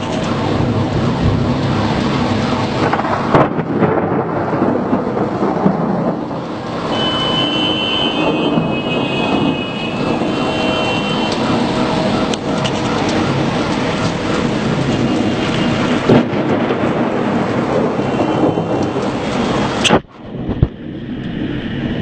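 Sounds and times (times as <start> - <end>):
sharp thunder crack: 0.0 - 21.6
thunder rumbling: 0.0 - 22.0.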